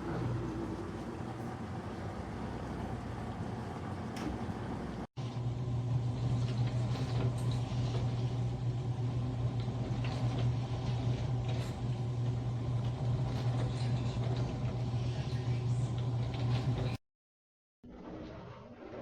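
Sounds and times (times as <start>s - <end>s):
dishwasher motor hum: 0.0s - 17.0s
dishwasher wash sound: 0.0s - 17.0s.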